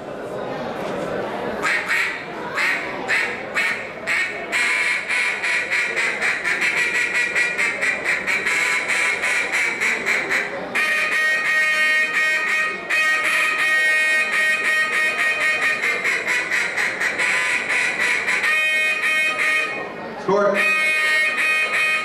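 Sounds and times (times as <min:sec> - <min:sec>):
duck call quacks: 0:01.6 - 0:19.8, 0:20.6 - 0:22.0.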